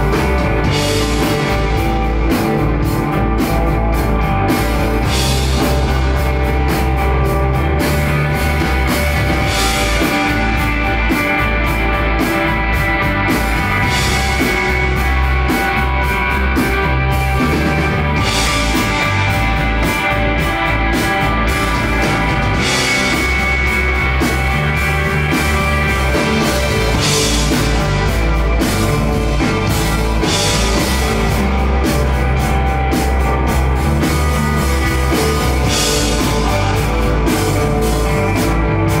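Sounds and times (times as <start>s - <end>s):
bass guitar: 0.0s - 39.0s
drum kit beat: 0.0s - 39.0s
electric guitar chords: 0.0s - 39.0s.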